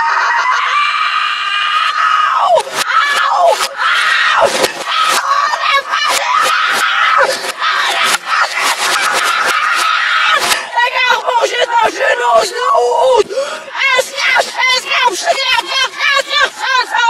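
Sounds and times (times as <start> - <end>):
boy screaming in rage: 0.0 - 17.0.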